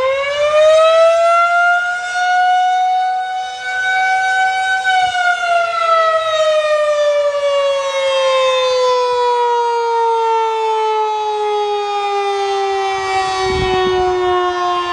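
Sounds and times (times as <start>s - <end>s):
fire siren winding down: 0.0s - 14.9s.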